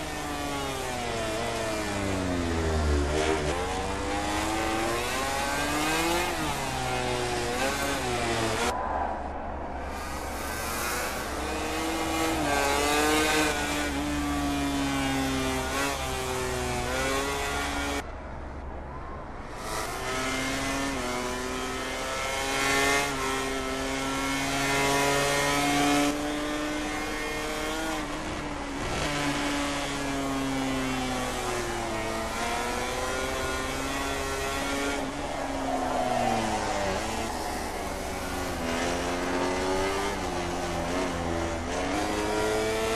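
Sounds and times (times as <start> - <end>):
racing motorcycle engines revving: 0.0 - 8.8, 9.9 - 18.0, 19.5 - 42.9.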